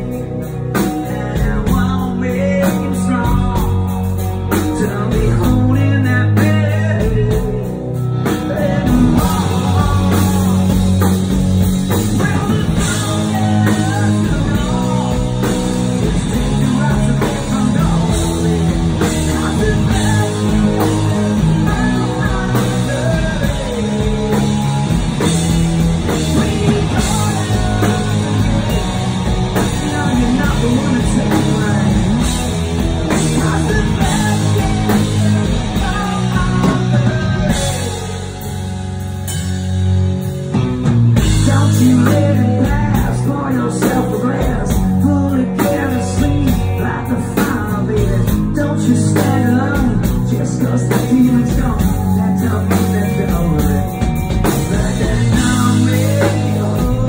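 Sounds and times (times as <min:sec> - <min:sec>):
man singing: 0:00.0 - 0:25.4, 0:26.0 - 0:38.6, 0:41.2 - 0:57.0
live rock band playing: 0:00.0 - 0:57.0.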